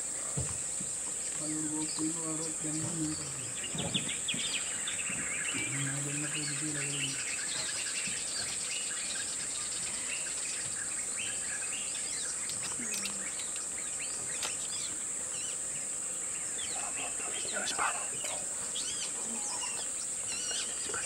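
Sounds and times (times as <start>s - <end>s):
insects droning: 0.0s - 21.0s
bird chirps: 1.2s - 21.0s.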